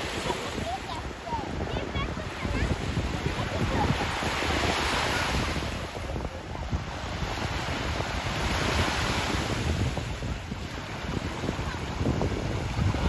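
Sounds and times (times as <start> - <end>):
small waves breaking on beach: 0.0 - 13.0
wind on microphone: 0.0 - 13.0.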